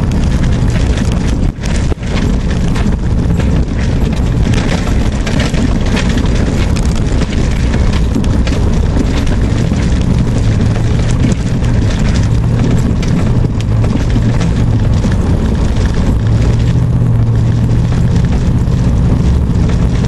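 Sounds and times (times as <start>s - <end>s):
cab rattles and knocks: 0.0s - 20.0s
rough road noise: 0.0s - 20.0s
truck engine droning: 0.0s - 20.0s.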